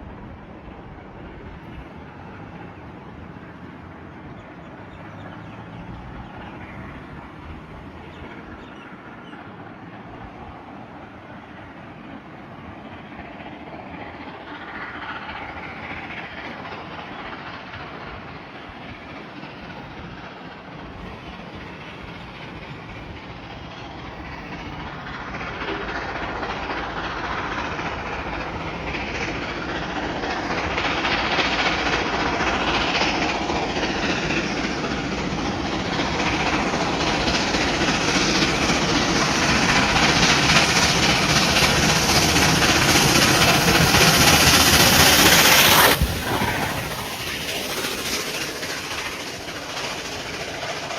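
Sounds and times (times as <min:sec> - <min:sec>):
train approaching: 0:00.0 - 0:50.9.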